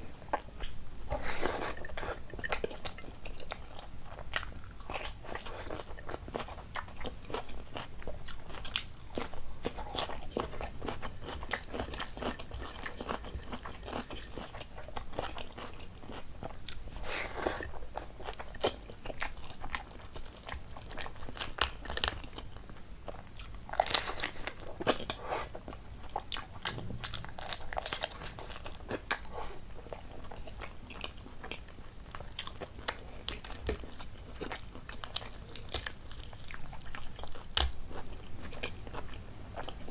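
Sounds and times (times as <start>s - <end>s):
person chewing food: 0.1s - 39.9s.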